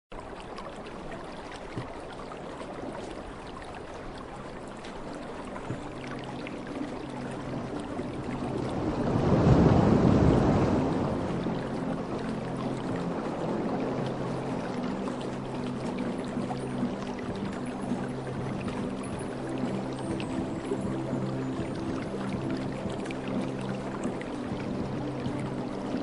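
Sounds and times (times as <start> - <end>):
stream water rushing: 0.1 - 26.0
water splashes and drips: 0.1 - 26.0.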